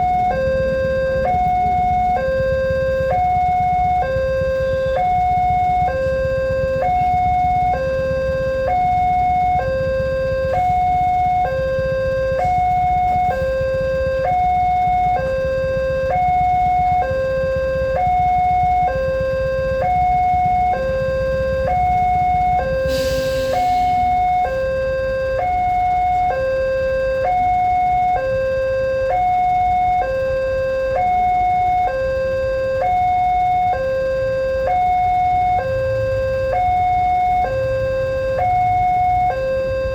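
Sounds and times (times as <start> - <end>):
two-tone electronic alarm: 0.0 - 39.9.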